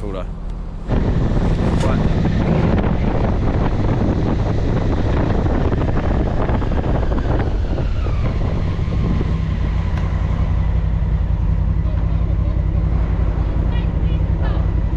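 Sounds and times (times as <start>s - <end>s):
low vehicle rumble: 0.0s - 14.9s
wind buffeting microphone: 0.7s - 14.9s.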